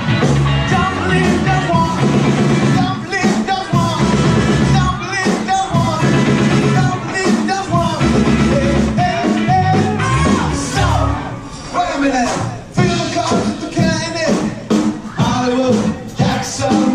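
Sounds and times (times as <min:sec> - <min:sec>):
song with steady beat: 0:00.0 - 0:16.9
person singing: 0:00.6 - 0:16.9.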